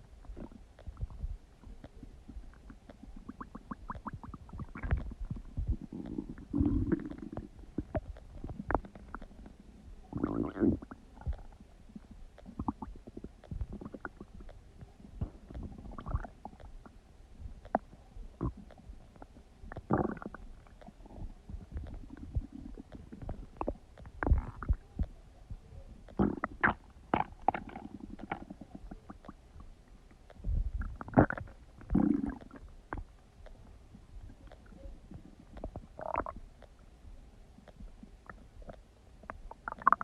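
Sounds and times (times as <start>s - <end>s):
stomach gurgling and rumbling: 0.0s - 40.0s.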